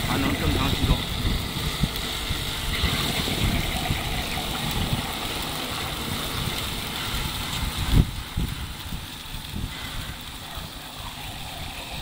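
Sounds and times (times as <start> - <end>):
grinder motor grinding beans: 0.0 - 12.0.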